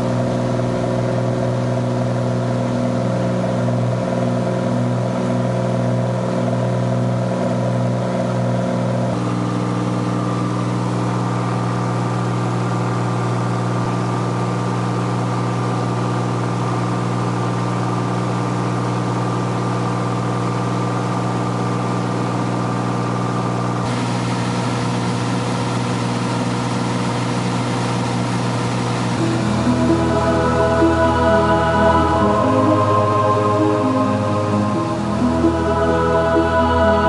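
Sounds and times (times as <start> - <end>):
light aircraft engine and propeller: 0.0 - 36.9.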